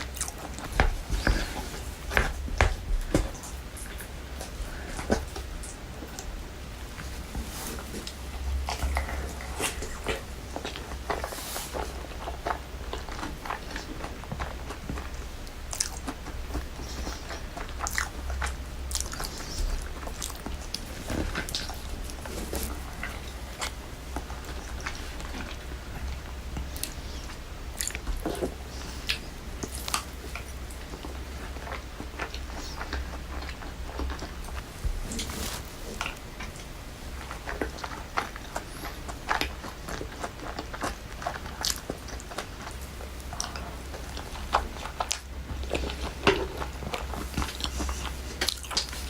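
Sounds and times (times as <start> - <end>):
crunchy chewing: 0.0 - 49.0.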